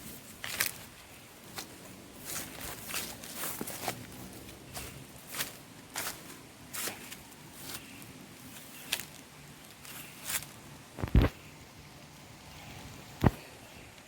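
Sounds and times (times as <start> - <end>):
scuffing footsteps outdoors: 0.0 - 11.4.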